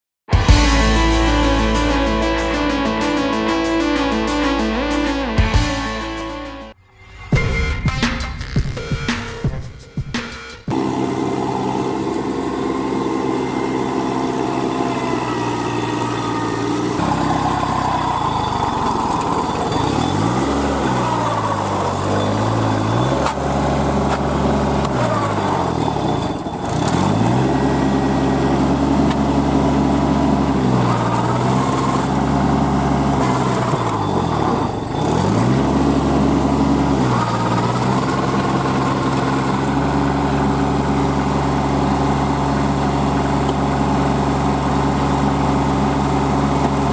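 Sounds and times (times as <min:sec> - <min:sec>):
tractor diesel engine labouring: 0:00.3 - 0:06.8, 0:10.5 - 0:46.9.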